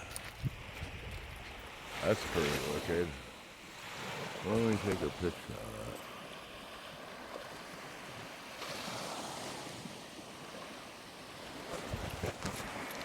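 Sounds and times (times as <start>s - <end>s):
ocean surf washing ashore: 0.0s - 13.0s.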